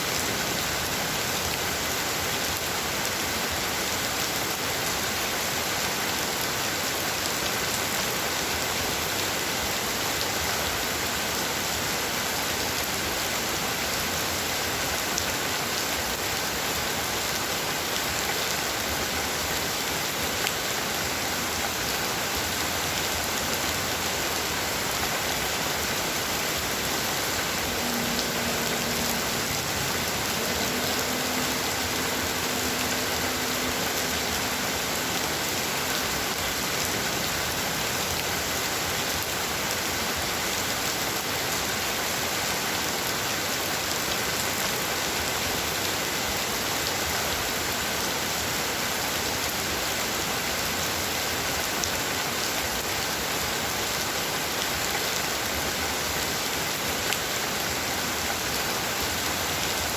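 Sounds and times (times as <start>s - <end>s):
heavy rain on surfaces: 0.0s - 59.9s.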